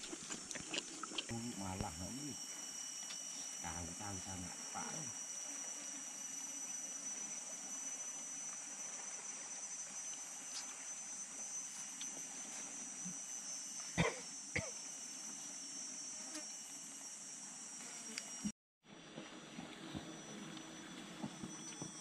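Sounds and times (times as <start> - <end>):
insects chirping: 0.0 - 18.5.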